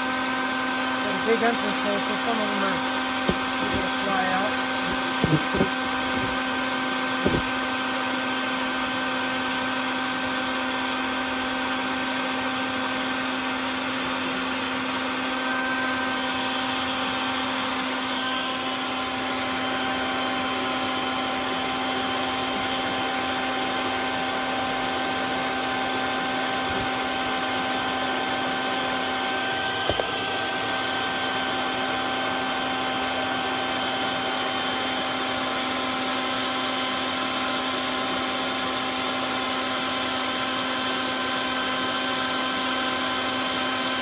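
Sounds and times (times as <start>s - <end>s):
vacuum running: 0.0s - 44.0s.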